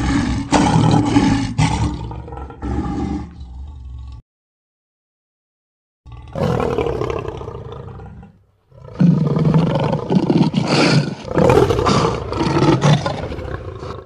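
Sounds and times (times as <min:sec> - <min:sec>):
lion roaring: 0:00.0 - 0:04.2, 0:06.1 - 0:14.0.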